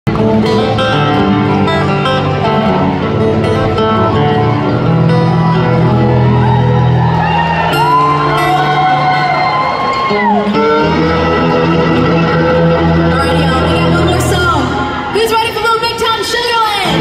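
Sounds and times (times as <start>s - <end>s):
country band playing instrumental: 0.1s - 17.0s.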